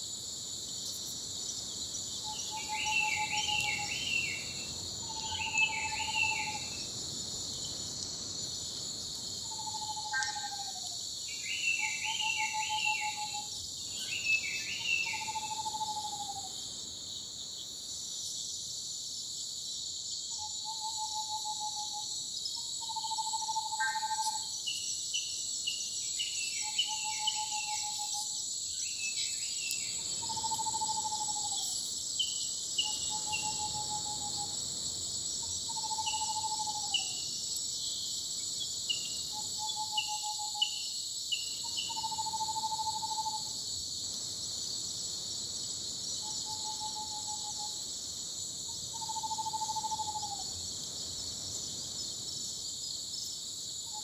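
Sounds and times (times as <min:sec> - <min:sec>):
high-pitched insect trill: 0:00.0 - 0:54.0.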